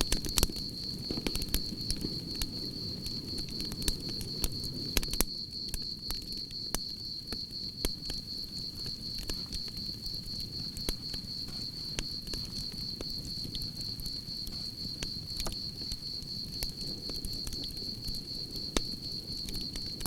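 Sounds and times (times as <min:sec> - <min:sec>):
campfire crackling and popping: 0:00.0 - 0:20.0
crickets chirping: 0:00.0 - 0:20.0.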